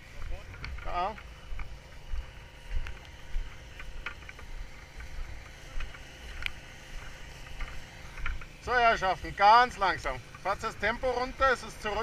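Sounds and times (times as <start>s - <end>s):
footsteps on wet grass: 0.0s - 12.0s.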